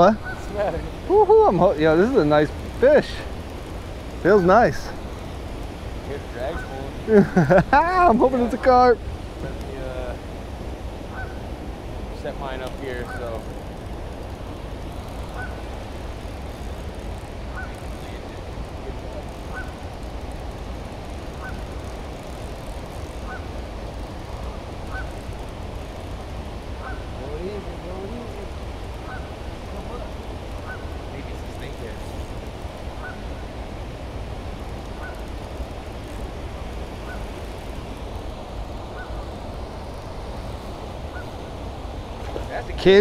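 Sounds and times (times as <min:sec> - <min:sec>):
water rushing over spillway: 0:00.0 - 0:43.0.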